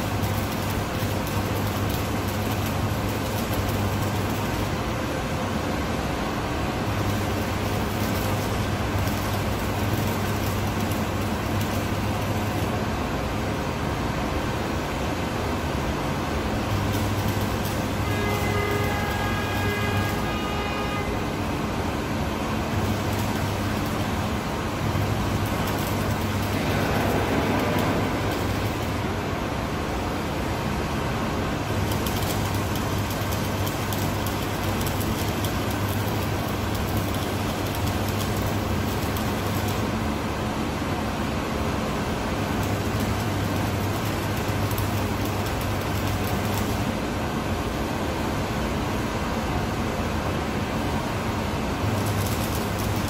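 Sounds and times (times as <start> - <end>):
welding arc crackling buzz: 0.0 - 49.2, 50.7 - 53.0
low mains hum: 0.0 - 53.0.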